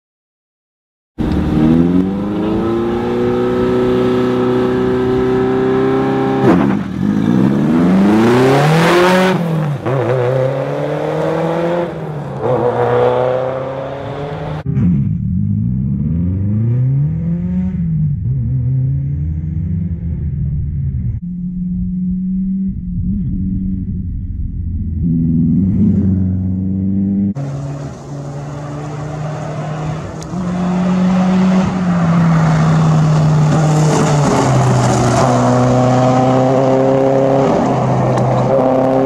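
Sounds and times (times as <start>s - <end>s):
rally car engine revving: 1.2s - 39.0s.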